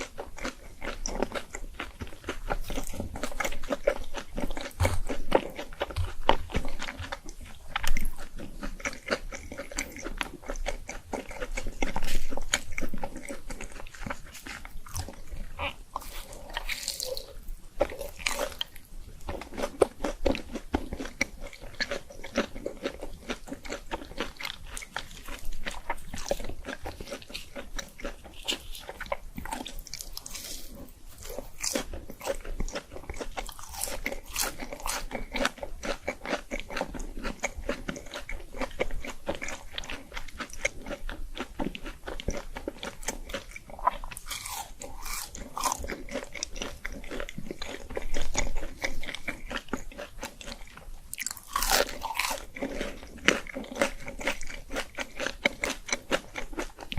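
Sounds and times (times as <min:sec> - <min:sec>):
crunching crispy fried food: 0:00.0 - 0:56.9.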